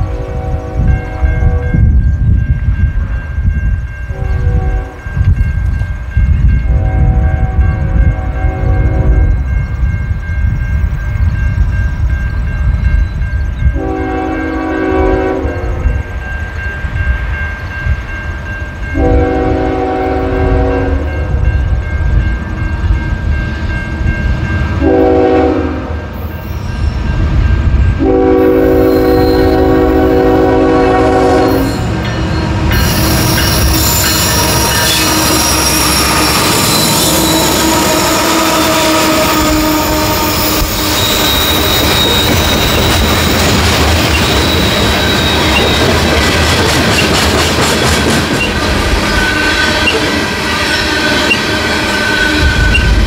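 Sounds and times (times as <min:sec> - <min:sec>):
locomotive multi-chime horn: 0:00.0 - 0:27.3, 0:28.0 - 0:46.2, 0:48.4 - 0:53.0
passing train rushing: 0:00.0 - 0:53.0
train rumbling: 0:00.0 - 0:53.0.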